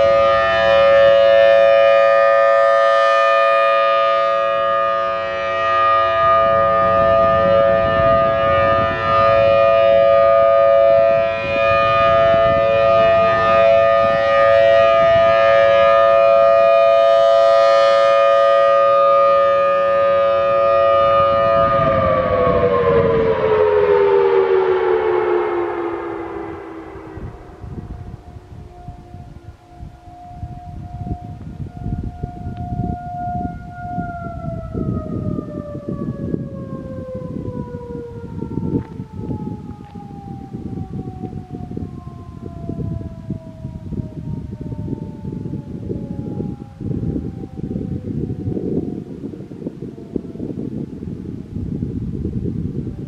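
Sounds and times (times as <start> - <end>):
warning siren two-note tone: 0.0 - 51.6.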